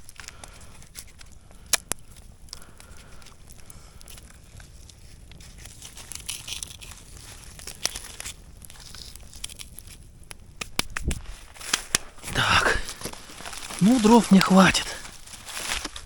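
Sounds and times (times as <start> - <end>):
rustling and crinkling handling noise: 0.0 - 16.0.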